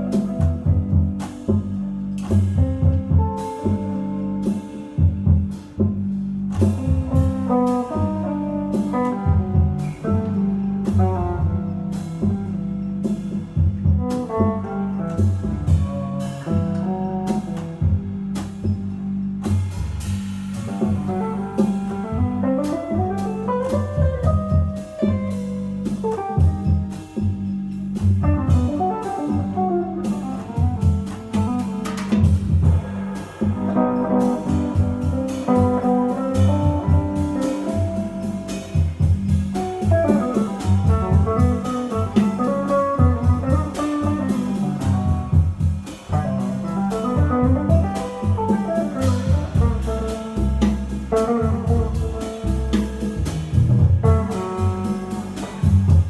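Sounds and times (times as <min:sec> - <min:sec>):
drum kit: 0:00.0 - 0:56.0
jazz combo playing: 0:00.0 - 0:56.0
upright bass: 0:00.0 - 0:56.0.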